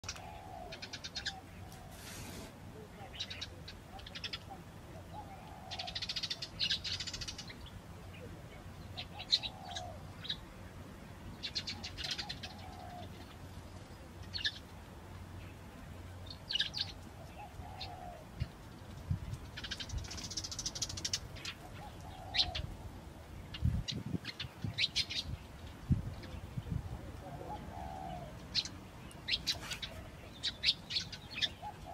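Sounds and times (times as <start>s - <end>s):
low cooing bird call: 0.0s - 10.6s, 11.4s - 14.7s, 16.3s - 18.8s, 19.4s - 25.4s, 26.0s - 31.9s
small birds chirping and trilling: 0.0s - 31.9s.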